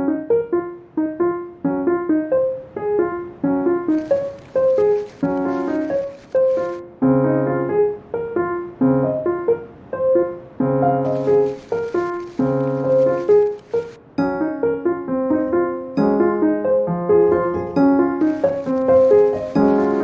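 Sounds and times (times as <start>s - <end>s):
bouncy piano melody: 0.0s - 20.0s.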